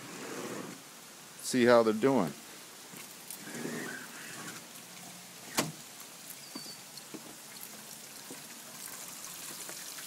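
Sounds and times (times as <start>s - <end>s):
rain pattering: 0.7s - 10.0s.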